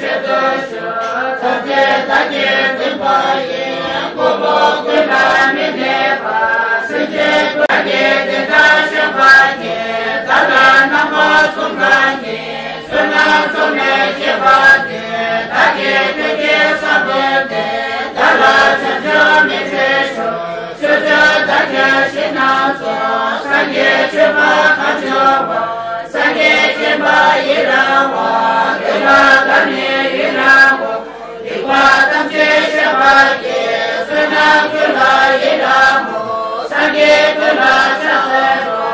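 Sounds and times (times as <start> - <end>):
many voices chanting in unison: 0.0 - 38.9.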